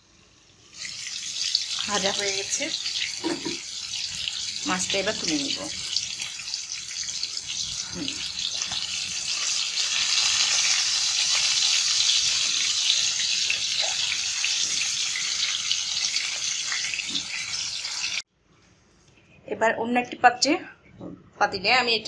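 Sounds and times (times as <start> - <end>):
fish sizzling in hot oil: 0.0 - 18.2.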